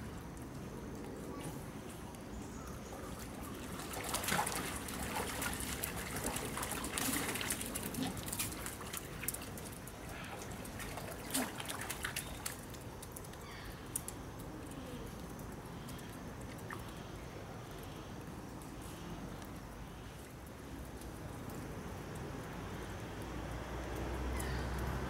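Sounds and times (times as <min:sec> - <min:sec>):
water trickling and sloshing: 0:00.0 - 0:25.0
wet ticks and splashes: 0:00.0 - 0:25.0.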